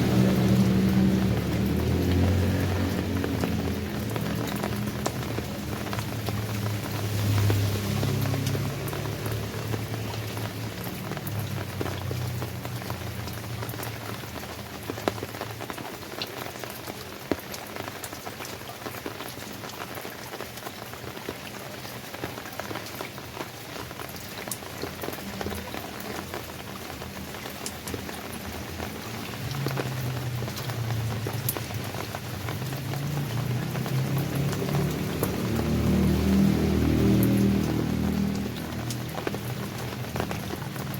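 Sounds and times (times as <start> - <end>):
raindrops tapping close by: 0.0 - 40.9
steady rain falling: 0.0 - 40.9.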